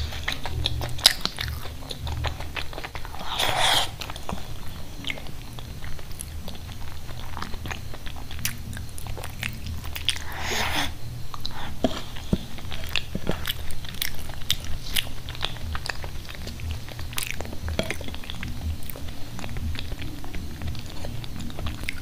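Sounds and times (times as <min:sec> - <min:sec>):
wet chewing and mouth smacking: 0:00.0 - 0:22.0.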